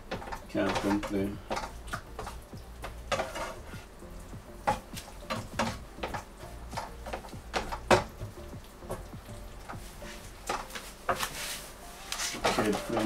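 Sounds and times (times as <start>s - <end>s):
sauce sizzling: 0.0s - 13.0s
utensil scraping frying pan: 0.0s - 13.0s.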